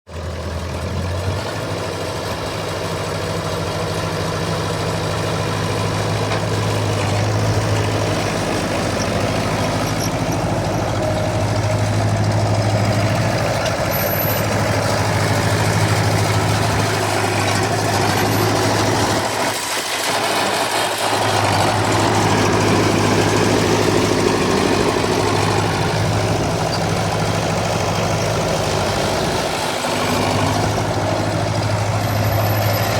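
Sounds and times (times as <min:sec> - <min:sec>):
tractor engine idling: 0:00.1 - 0:32.9.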